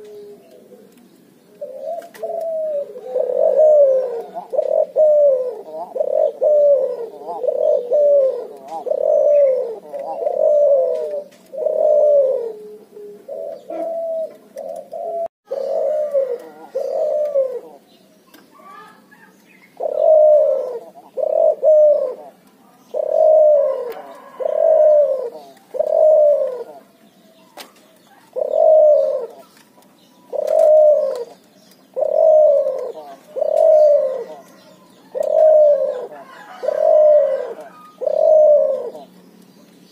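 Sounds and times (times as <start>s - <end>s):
dove cooing: 0.0s - 18.0s, 18.6s - 39.4s.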